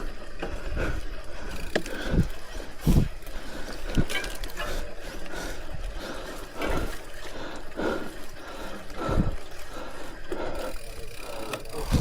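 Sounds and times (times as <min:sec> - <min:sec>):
bike tyres on wet trail: 0:00.0 - 0:12.0.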